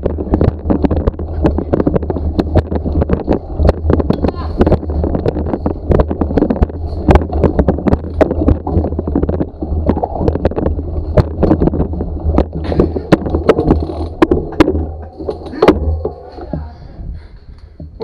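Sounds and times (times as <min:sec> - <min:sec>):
bicycle knocking and rattling: 0:00.0 - 0:18.0
low rumble: 0:00.0 - 0:18.0.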